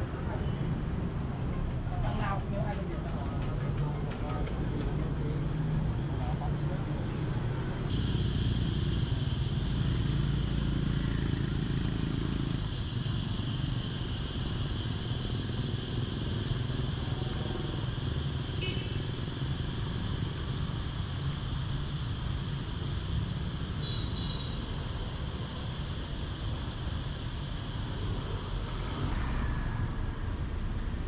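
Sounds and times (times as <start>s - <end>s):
motorbike traffic rumble: 0.0s - 31.0s.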